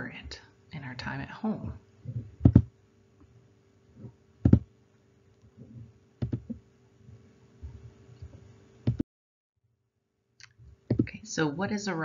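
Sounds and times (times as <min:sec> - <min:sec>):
faint electrical hum: 0:00.0 - 0:09.0, 0:10.0 - 0:12.0.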